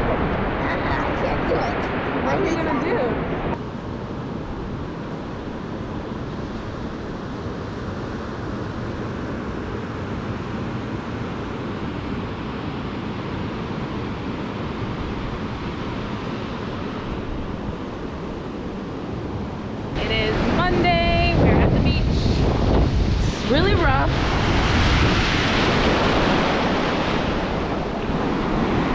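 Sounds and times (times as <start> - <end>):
ocean surf breaking: 0.0 - 28.9
wind noise on microphone: 0.0 - 28.9.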